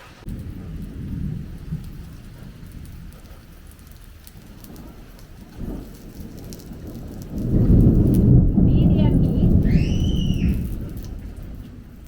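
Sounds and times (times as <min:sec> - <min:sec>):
oil crackling in a pan: 0:00.0 - 0:12.0.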